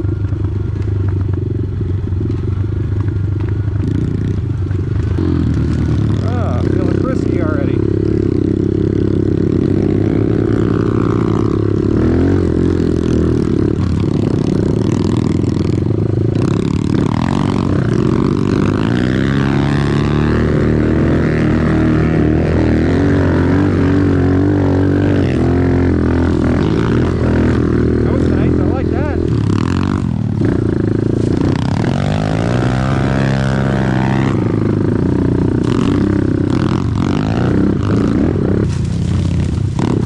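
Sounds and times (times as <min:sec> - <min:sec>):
off-road vehicle engine: 0:00.0 - 0:40.0.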